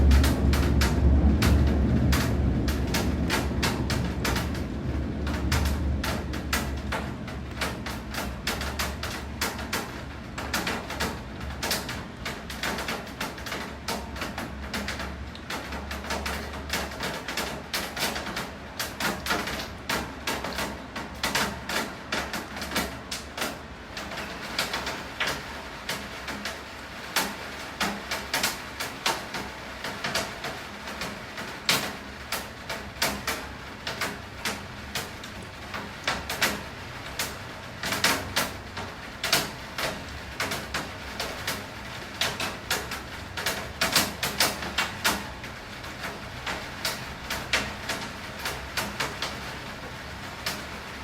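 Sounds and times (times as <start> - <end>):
raindrops tapping hard surface: 0.0 - 50.9
steady rain: 0.0 - 51.0.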